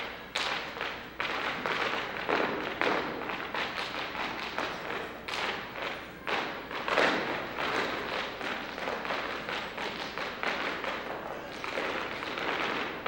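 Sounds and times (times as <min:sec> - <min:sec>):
dance shoes tapping on stage: 0:00.0 - 0:13.0.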